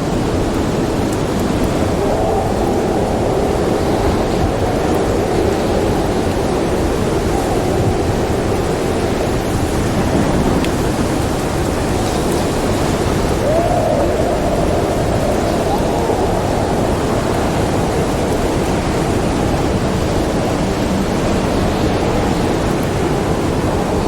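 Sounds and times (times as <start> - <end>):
howling snowstorm wind: 0.0 - 24.0.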